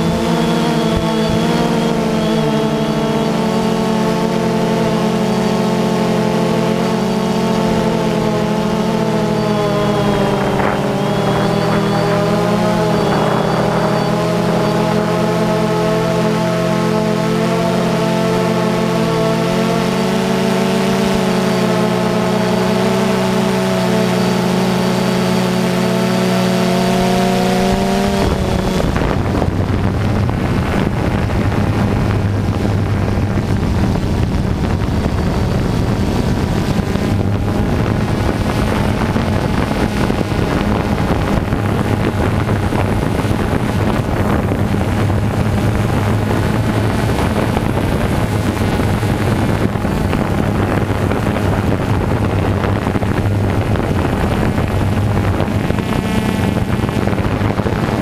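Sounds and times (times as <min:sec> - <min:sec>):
drone motors whining: 0:00.0 - 0:58.0
wind rush on microphone: 0:00.0 - 0:58.0.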